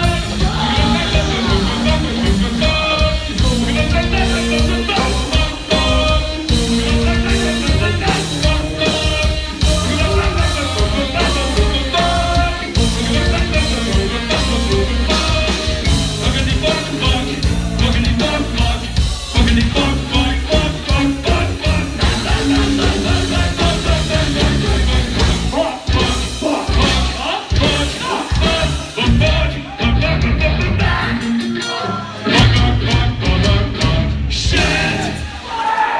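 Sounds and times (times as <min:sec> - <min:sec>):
pounding drums: 0:00.0 - 0:31.4
distorted electric guitars: 0:00.0 - 0:35.6
sung vocals: 0:00.0 - 0:35.6.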